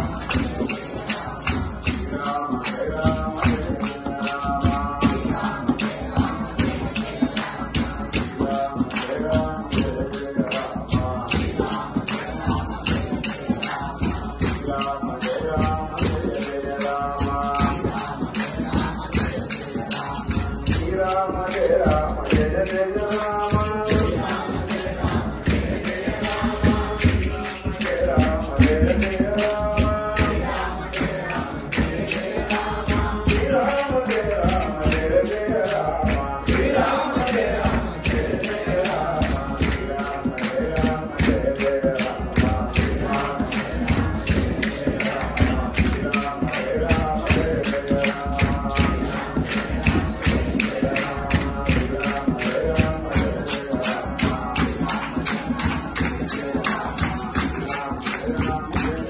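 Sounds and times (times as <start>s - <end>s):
group chanting: 0.0s - 59.0s
man leading singing: 0.0s - 59.0s
metallic percussion beat: 0.0s - 59.0s.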